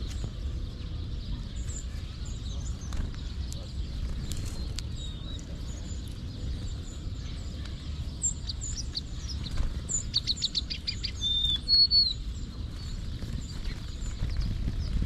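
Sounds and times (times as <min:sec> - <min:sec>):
songbirds calling: 0:00.0 - 0:15.0.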